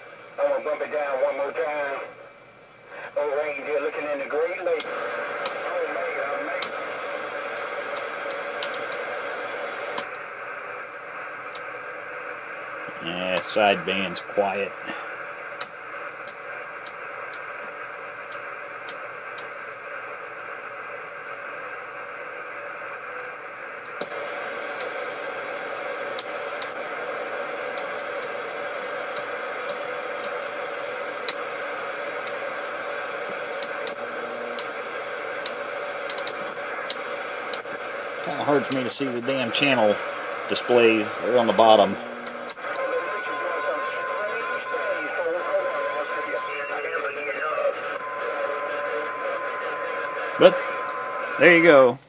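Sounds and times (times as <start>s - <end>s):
radio static hiss: 0.0s - 52.0s.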